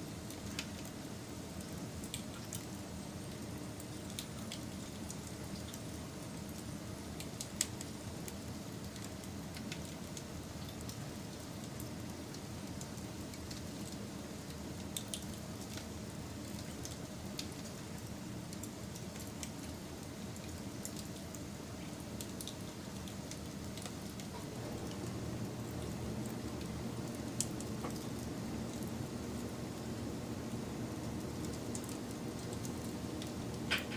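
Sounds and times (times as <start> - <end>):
fire crackles and pops: 0.2 - 33.9.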